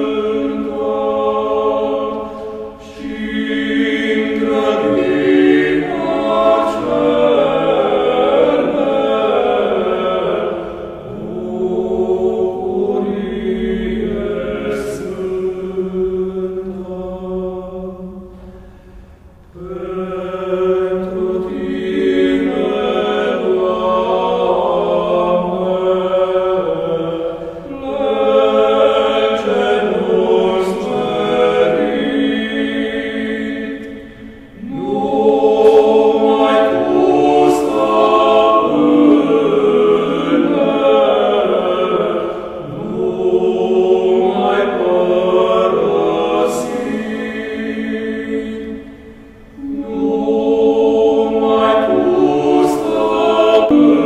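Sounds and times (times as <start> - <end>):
church choir chanting: 0.0 - 54.0.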